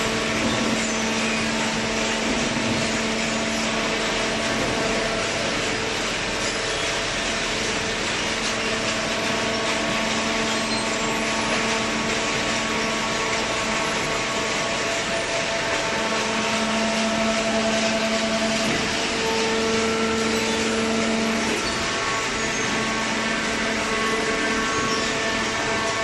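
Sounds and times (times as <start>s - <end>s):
constant hum: 0.0s - 26.0s
industrial machine drone: 0.0s - 26.0s.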